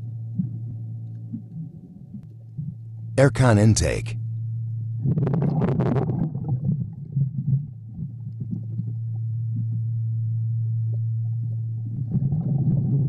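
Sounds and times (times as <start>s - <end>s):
underwater low hum: 0.0s - 13.0s.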